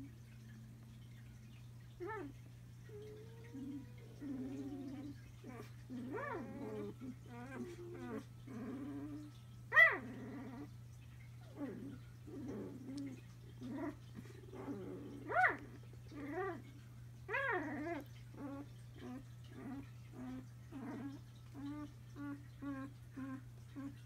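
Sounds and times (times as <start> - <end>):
puppies grunting: 2.0 - 24.0.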